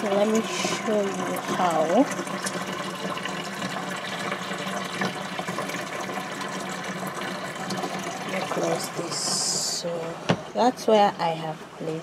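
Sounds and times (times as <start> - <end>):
water running into washing machine tub: 0.0 - 12.0.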